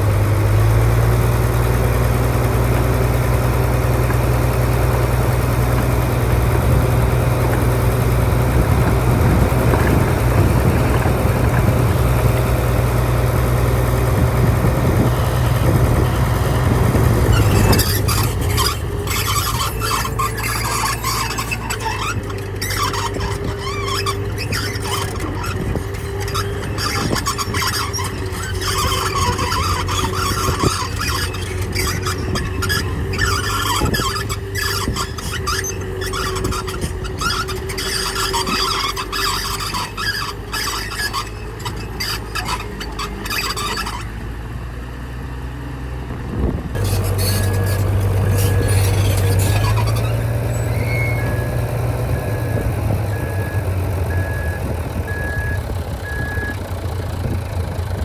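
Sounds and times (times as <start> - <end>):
steel tracks squeaking and clanking: 0.0 - 44.5, 46.7 - 57.4
diesel engine deep hum: 0.0 - 58.0.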